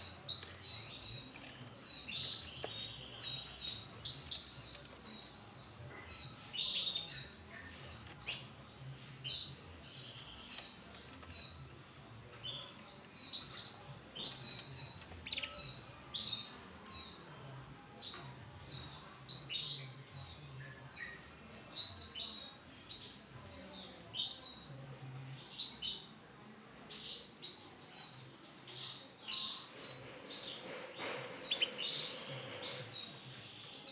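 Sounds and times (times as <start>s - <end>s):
canary singing: 0.0s - 24.8s, 27.1s - 33.9s.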